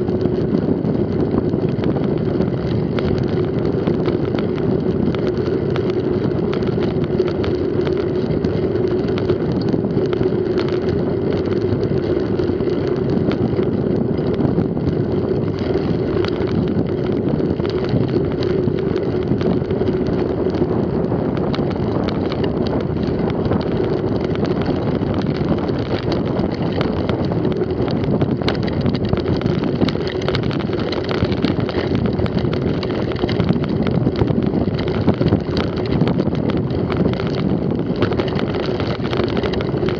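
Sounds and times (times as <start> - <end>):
bike rattling over bumps: 0.0 - 39.9
bike tyres droning: 0.0 - 39.9
wind buffeting microphone: 0.0 - 39.9.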